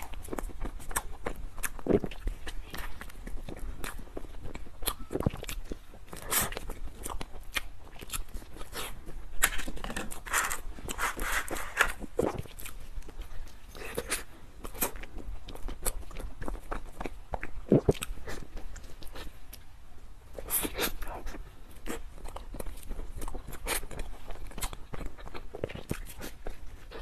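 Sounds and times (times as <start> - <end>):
chewing and lip-smacking: 0.0 - 19.7, 20.3 - 27.0.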